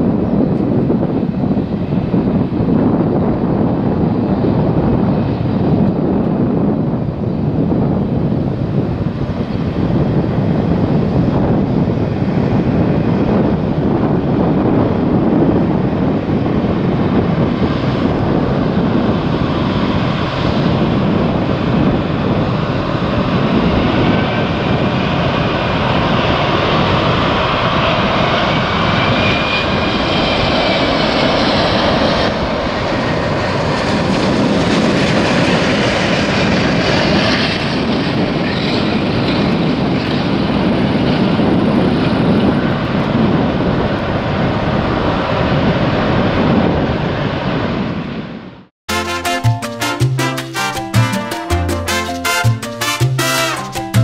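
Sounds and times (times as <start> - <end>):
jet engines roaring: 0.0 - 48.2
faint jet engine whine: 0.0 - 48.7.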